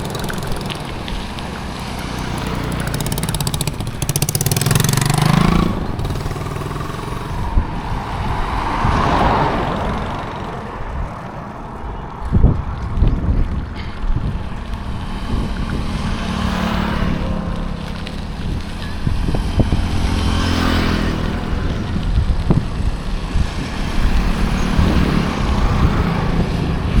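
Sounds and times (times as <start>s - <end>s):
tyre noise rushing: 0.0s - 27.0s
vehicle engine passing: 0.0s - 27.0s.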